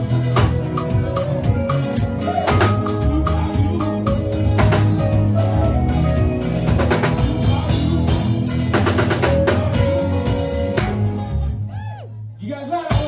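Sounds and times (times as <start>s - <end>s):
live band playing afrobeats: 0.0s - 13.0s.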